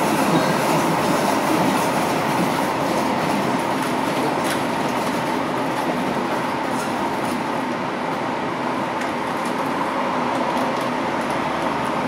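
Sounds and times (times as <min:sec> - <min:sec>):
light-rail car wheels rumbling: 0:00.0 - 0:12.0.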